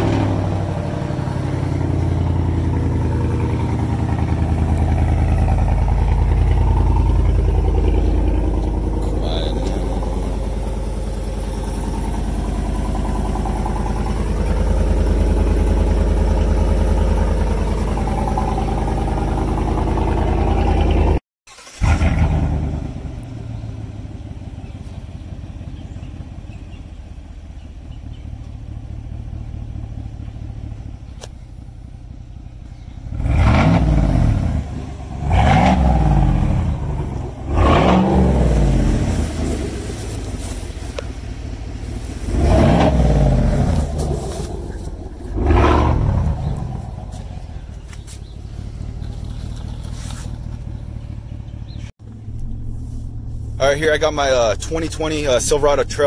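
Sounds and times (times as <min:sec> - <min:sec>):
truck exhaust idling and revving: 0:00.0 - 0:56.0.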